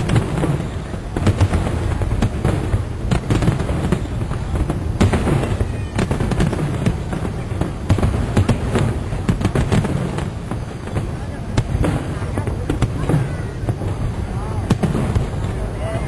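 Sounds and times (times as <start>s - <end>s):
fireworks booming: 0.0s - 16.0s
fireworks crackling and popping: 0.0s - 16.0s.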